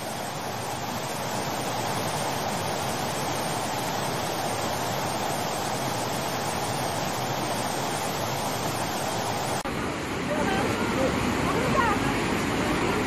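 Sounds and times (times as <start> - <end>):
flood torrent roaring: 0.0 - 13.0.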